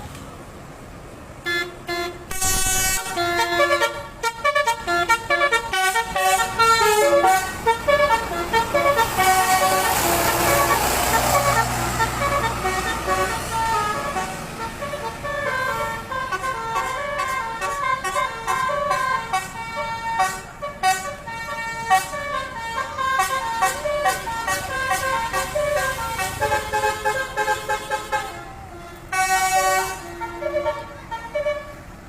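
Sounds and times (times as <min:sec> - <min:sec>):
bus multi-tone musical horn: 0:01.4 - 0:32.0.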